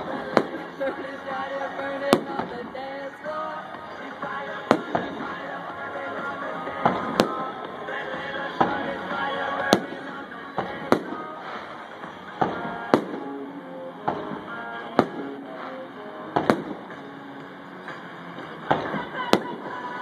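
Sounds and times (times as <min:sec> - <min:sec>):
fireworks bursting: 0:00.0 - 0:20.0
music playing: 0:00.0 - 0:20.0.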